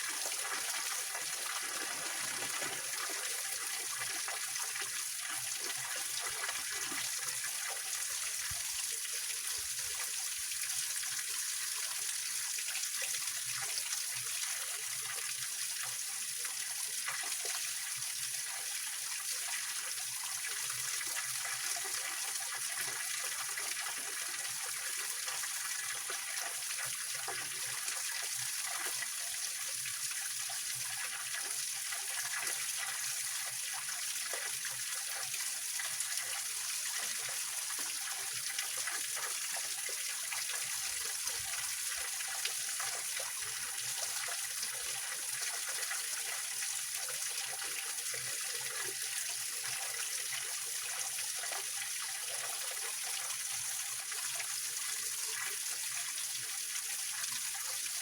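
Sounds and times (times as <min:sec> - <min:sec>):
stream running over rocks: 0:00.0 - 0:13.0, 0:19.5 - 0:58.0.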